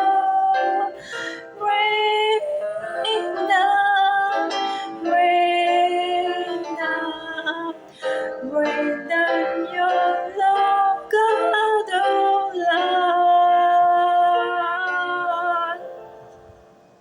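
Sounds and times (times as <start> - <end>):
woman singing a hymn: 0.0 - 16.0.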